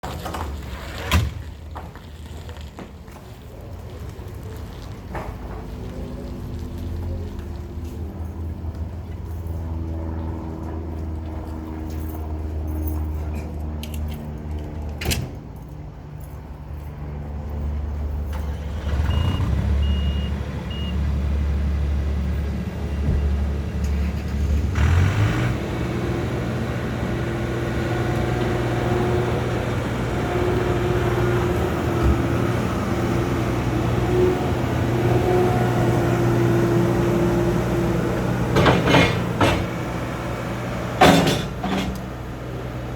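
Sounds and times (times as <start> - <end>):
diesel engine idling and revving: 4.4 - 42.9.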